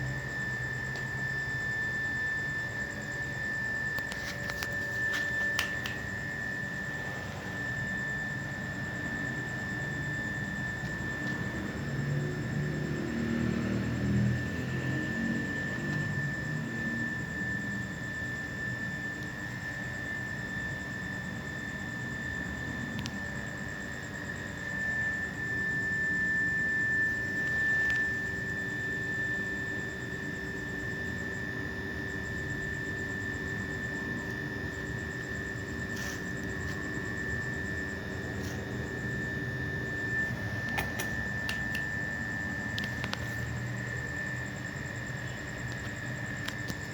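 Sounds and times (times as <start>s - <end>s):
machine hum with whine: 0.0s - 46.9s.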